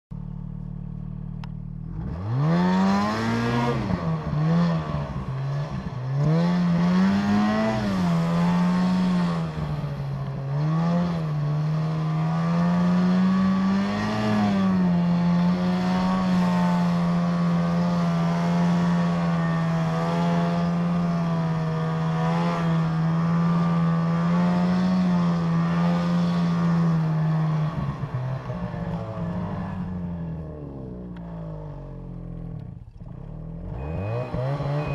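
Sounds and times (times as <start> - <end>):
snowmobile engine revving: 1.9 - 32.4, 33.0 - 34.9.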